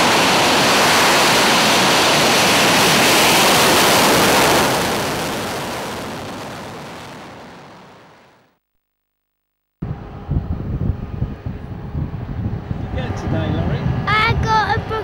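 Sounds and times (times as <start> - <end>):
jet engines rushing past: 0.0 - 8.2, 9.8 - 15.0.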